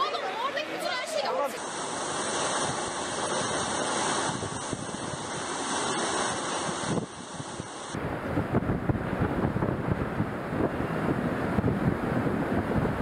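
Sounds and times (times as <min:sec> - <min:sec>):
driving rain: 0:00.0 - 0:13.0
storm wind: 0:01.6 - 0:13.0
wind buffeting microphone: 0:02.0 - 0:13.0.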